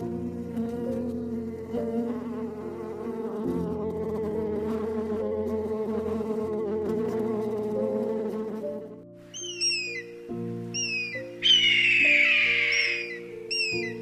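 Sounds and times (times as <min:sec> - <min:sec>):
flying insect buzzing: 0:00.0 - 0:14.0.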